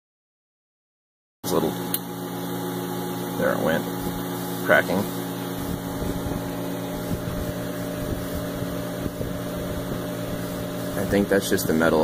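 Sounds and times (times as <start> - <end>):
steady mechanical hum: 1.4 - 12.0.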